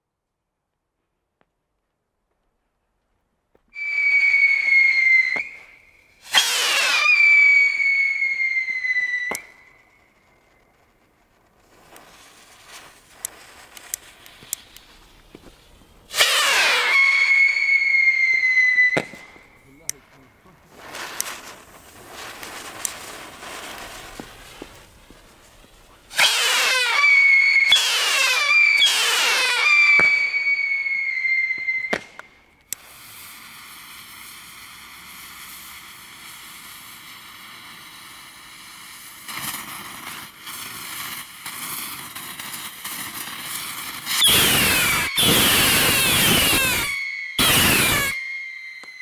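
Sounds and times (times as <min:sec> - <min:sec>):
rockets whistling: 0:03.7 - 0:49.0.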